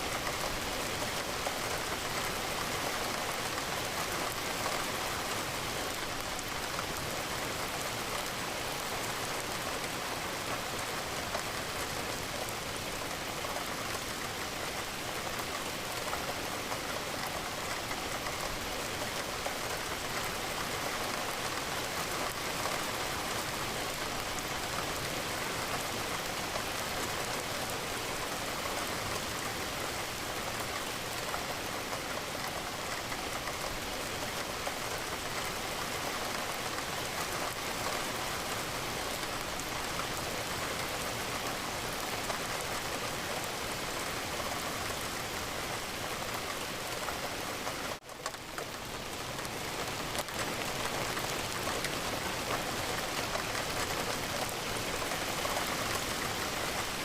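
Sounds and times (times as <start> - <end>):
rain drops on a window: 0.0 - 57.0.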